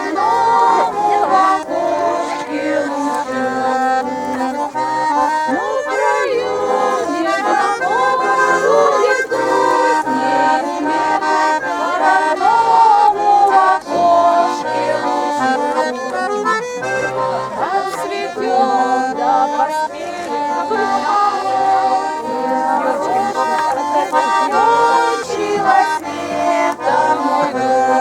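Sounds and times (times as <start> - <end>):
accordion folk tune: 0.0 - 28.0.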